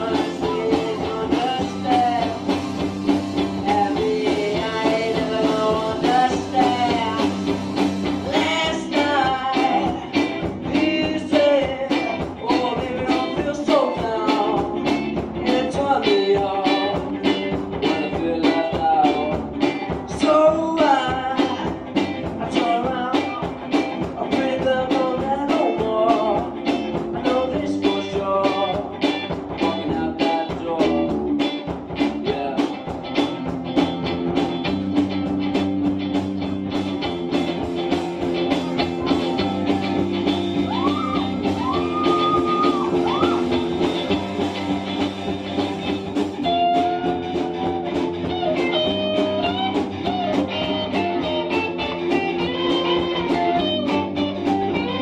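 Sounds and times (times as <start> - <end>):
person singing: 0.0 - 2.8, 3.4 - 32.9, 38.3 - 44.3, 46.4 - 55.0
bass guitar: 0.0 - 55.0
electric guitars: 0.0 - 55.0
steady drum beat: 0.0 - 55.0.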